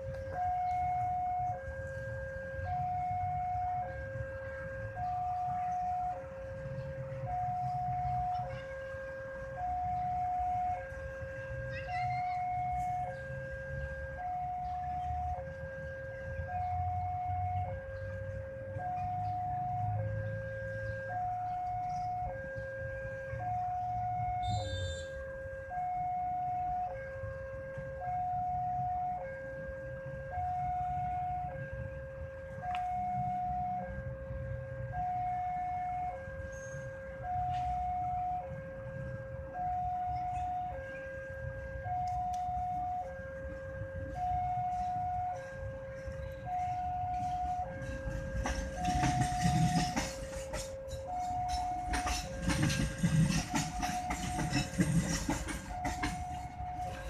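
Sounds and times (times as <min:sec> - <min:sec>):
passing train rumble: 0:00.0 - 0:57.0
two-tone level crossing alarm: 0:00.0 - 0:57.0.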